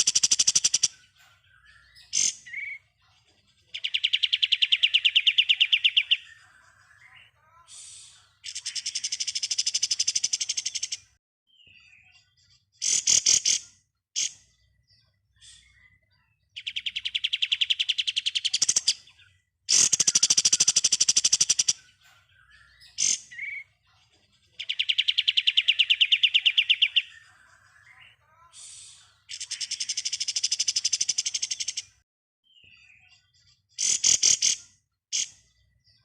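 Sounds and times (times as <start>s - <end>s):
bird singing rapid trills: 0.0s - 3.0s, 3.7s - 7.4s, 8.4s - 28.2s, 29.1s - 36.0s.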